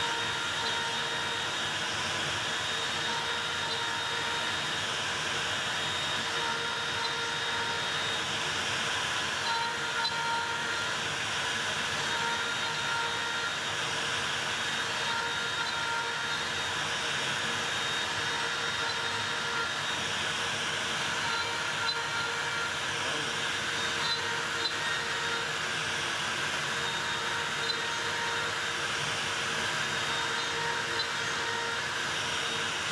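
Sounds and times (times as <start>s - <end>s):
router running: 0.0s - 32.9s.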